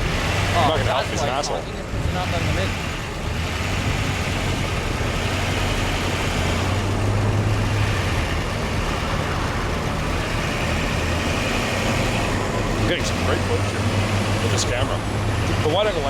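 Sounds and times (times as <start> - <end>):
road traffic noise: 0.0 - 16.0
vehicle engine idling: 0.0 - 16.0.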